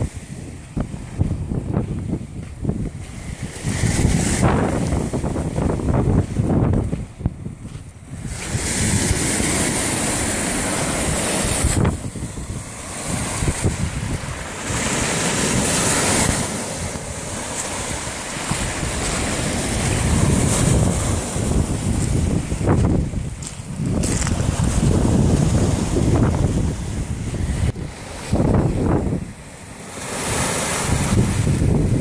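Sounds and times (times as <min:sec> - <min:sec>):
lake waves: 0:00.0 - 0:32.0
wind buffeting microphone: 0:00.0 - 0:32.0.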